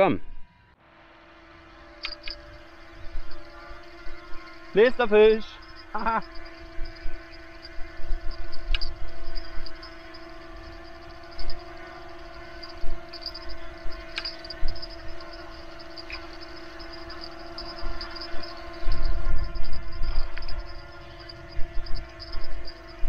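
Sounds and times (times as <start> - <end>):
drone propellers whining: 0.0 - 23.0.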